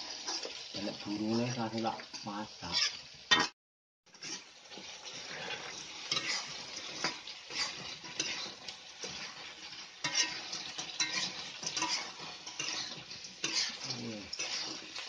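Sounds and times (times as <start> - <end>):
metal spoon scraping a pan: 0.0 - 1.1, 2.0 - 3.5, 4.1 - 15.0
paste sizzling in a wok: 0.0 - 15.0.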